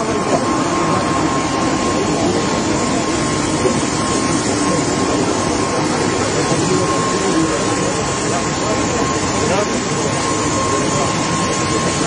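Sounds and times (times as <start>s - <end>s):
aircraft engine roaring with whine: 0.0s - 12.0s
crowd chatter: 0.0s - 12.0s.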